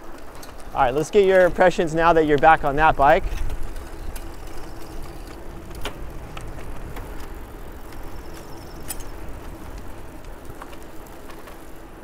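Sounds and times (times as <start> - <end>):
bicycle rolling on pavement: 0.0 - 12.0.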